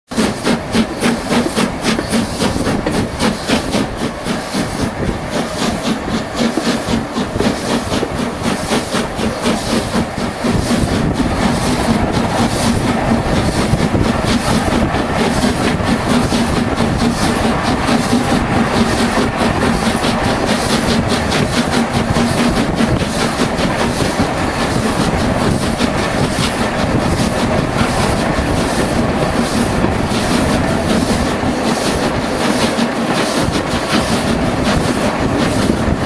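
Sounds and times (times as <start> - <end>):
train running: 0.1 - 36.0.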